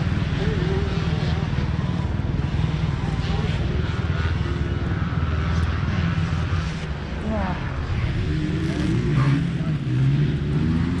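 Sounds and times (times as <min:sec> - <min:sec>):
motocross bike engine: 0:00.0 - 0:11.0.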